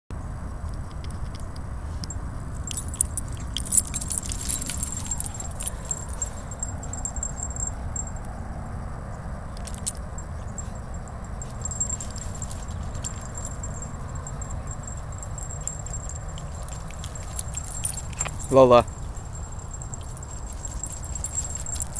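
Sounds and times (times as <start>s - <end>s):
steady low rumble: 0.2s - 8.8s, 9.5s - 21.9s
light metallic jingling: 0.6s - 21.9s.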